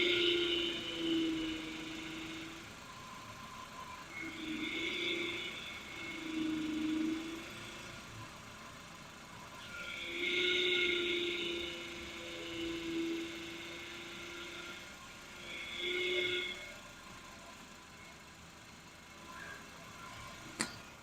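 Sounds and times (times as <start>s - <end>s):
power steering pump whining: 0.0s - 21.0s.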